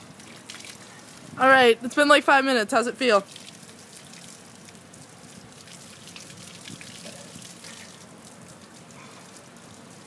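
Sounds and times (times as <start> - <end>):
hose water splashing on concrete: 0.0 - 10.0.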